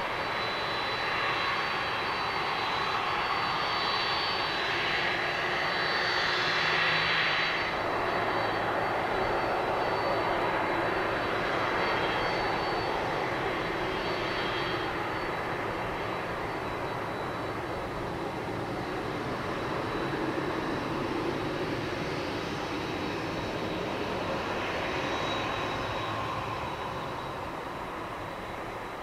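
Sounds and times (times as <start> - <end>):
jet engines at taxi power: 0.0 - 29.0.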